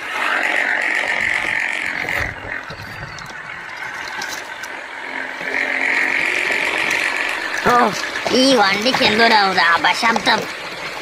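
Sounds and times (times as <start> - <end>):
toy motor whirring: 0.0 - 9.3.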